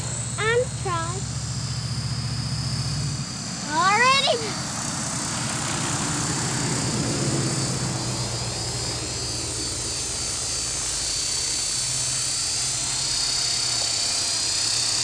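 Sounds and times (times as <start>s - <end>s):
helicopter rotor whir: 0.0s - 15.0s
high-pitched motor whine: 0.0s - 15.0s.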